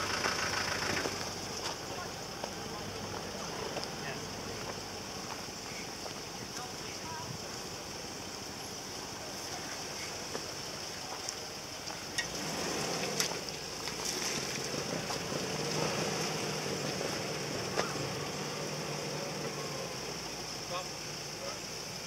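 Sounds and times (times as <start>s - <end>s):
steady high hiss: 0.0s - 22.0s
vehicle engine running: 0.0s - 22.0s.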